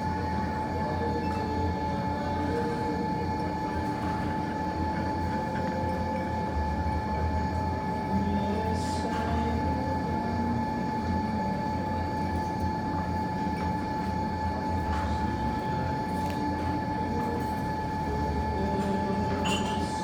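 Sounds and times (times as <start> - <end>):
constant hum: 0.0 - 20.0.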